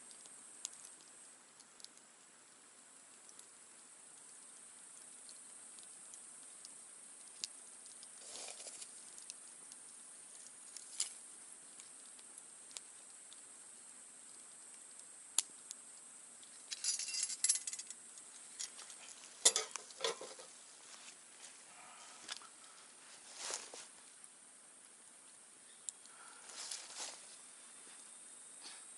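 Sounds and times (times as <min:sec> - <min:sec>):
campfire crackling and popping: 0:00.0 - 0:28.9
steady high hiss: 0:00.0 - 0:28.9.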